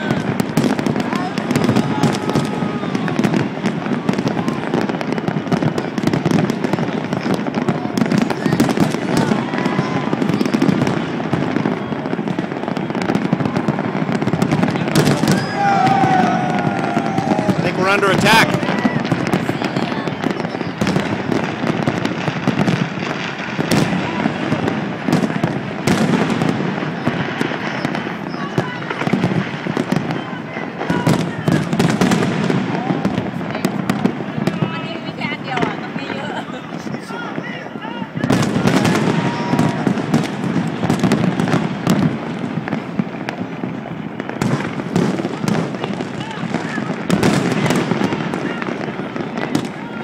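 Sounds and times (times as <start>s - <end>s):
distant fireworks crackling: 0.0s - 50.0s
sharp firework bangs: 0.0s - 50.0s.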